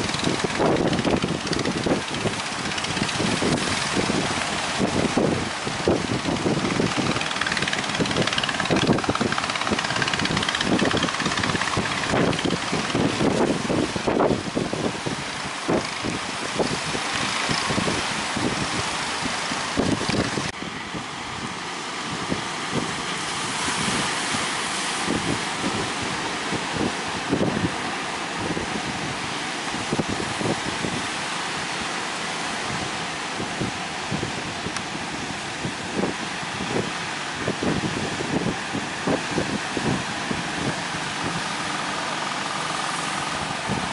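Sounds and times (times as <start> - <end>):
wind blowing across microphone: 0.0 - 43.9.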